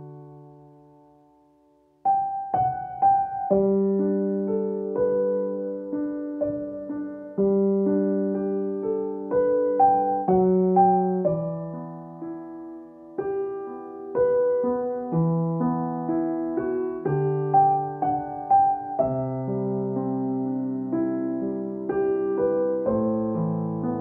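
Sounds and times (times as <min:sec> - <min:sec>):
slow piano notes and chords: 0:00.0 - 0:24.0.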